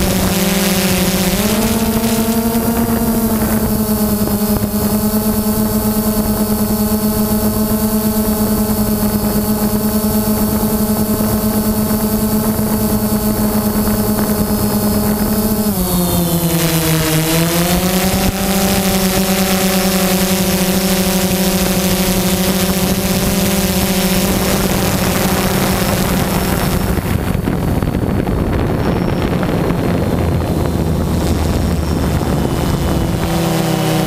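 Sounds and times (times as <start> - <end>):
drone motors buzzing: 0.0 - 34.0.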